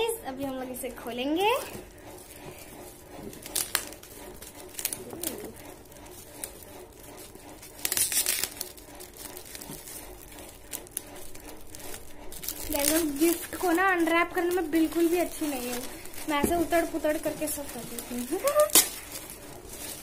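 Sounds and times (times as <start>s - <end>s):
wrapping paper crinkling: 0.4s - 20.0s
paper tearing: 2.3s - 20.0s.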